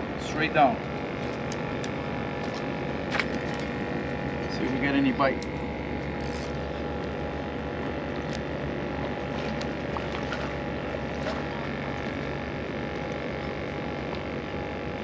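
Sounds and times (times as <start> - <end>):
droning background noise: 0.0 - 15.0
faint held hum: 0.0 - 15.0.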